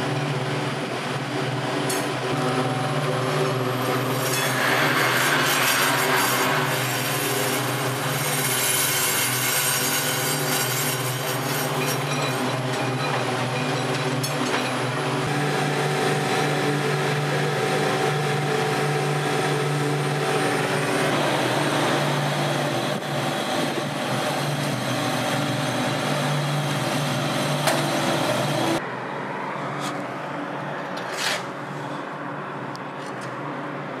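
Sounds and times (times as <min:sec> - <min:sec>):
heavy machine engine humming: 0:00.0 - 0:07.9, 0:11.3 - 0:32.7.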